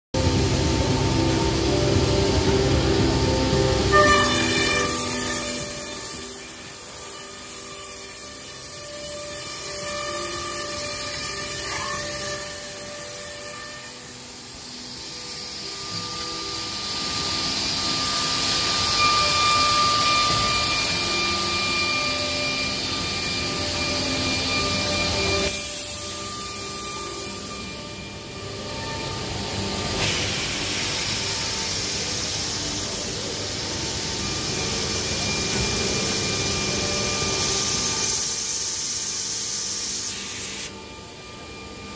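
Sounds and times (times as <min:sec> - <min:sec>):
cutting hiss: 0:00.2 - 0:41.9
machine motor whine: 0:00.2 - 0:41.9.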